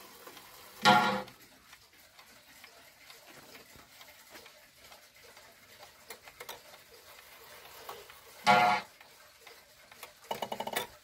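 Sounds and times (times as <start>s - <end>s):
wall clock ticking: 0.0s - 11.0s.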